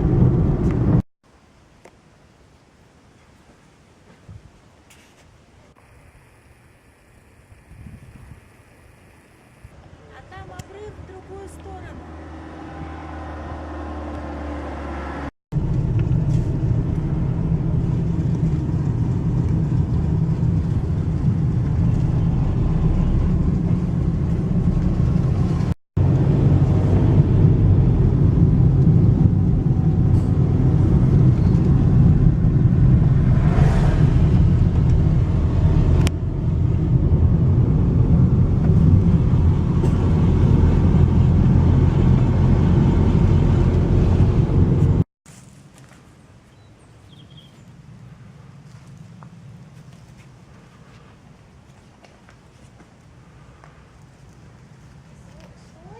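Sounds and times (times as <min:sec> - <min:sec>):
car engine and road noise: 0:00.0 - 0:01.6, 0:05.2 - 0:55.9.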